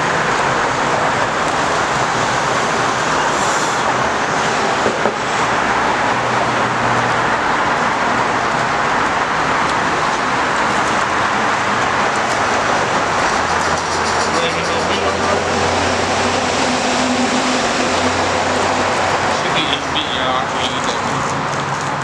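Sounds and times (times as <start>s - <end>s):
road traffic rushing: 0.0s - 22.0s.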